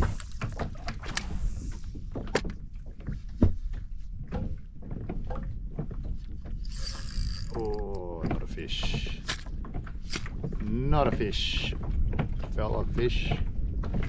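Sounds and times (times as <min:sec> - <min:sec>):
low rumble of water: 0:00.0 - 0:14.0
plastic kayak knocking and rattling: 0:02.0 - 0:14.0.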